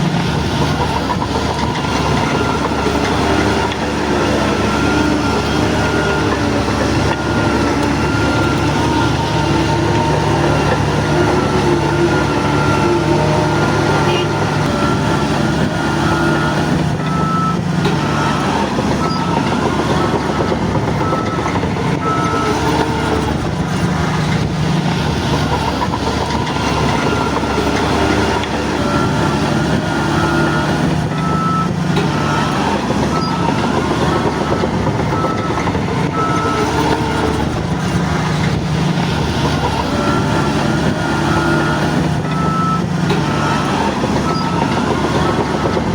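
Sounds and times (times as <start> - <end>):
heavy diesel machinery running: 0.0 - 45.9
reversing alarm beeping: 0.0 - 45.9.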